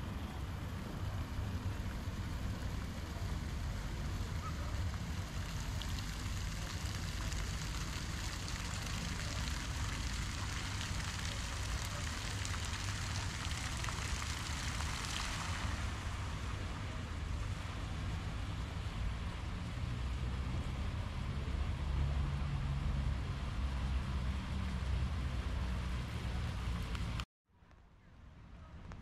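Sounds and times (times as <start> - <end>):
low street rumble: 0.0 - 29.0.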